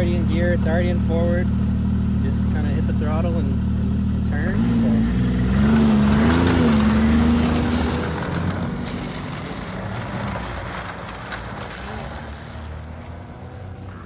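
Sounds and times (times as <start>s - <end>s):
snowmobile engine pulling away: 2.1s - 14.0s.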